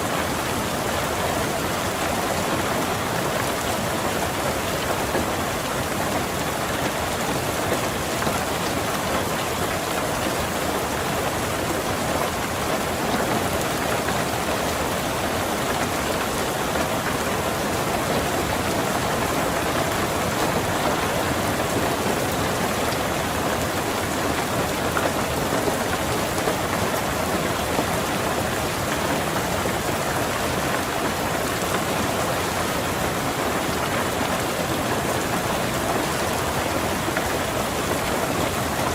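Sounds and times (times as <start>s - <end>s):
rain pattering on car roof: 0.0s - 38.9s.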